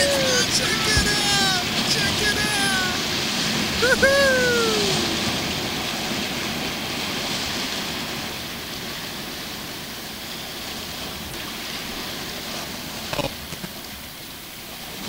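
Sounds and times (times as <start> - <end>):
ocean waves washing: 0.0 - 15.0.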